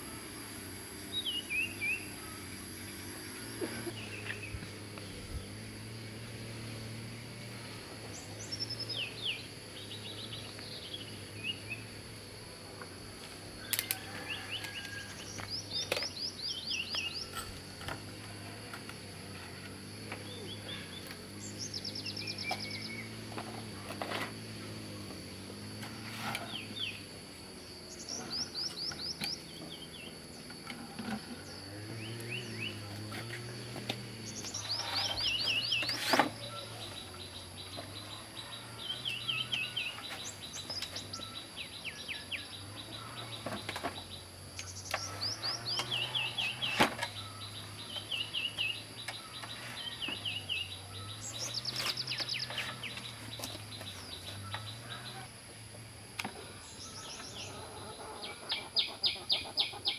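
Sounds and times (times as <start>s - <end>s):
small birds chirping trills: 0.0s - 59.9s.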